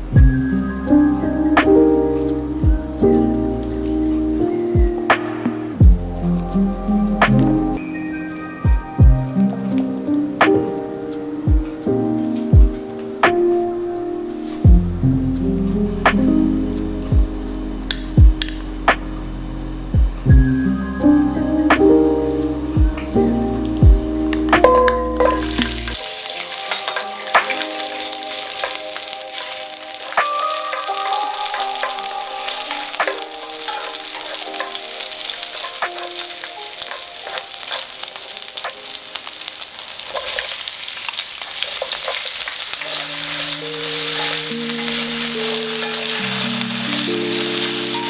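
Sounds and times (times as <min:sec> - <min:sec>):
background music melody: 0:00.0 - 0:48.0
food sizzling in a pan: 0:00.3 - 0:48.0.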